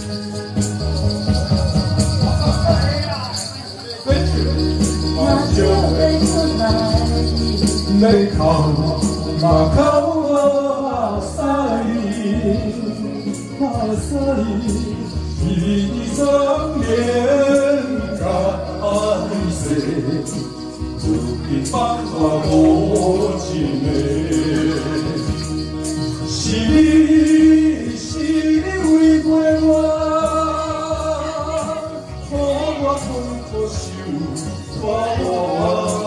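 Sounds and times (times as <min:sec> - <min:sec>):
person singing into microphone: 0:00.0 - 0:36.0
pop backing track with beat: 0:00.0 - 0:36.0.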